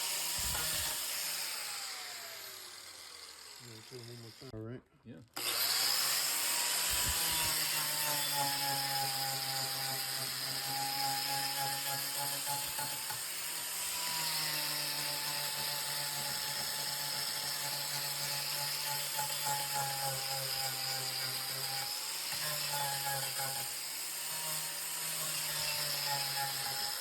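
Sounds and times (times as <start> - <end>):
power tool motor whining: 0.0 - 4.5, 5.4 - 27.0.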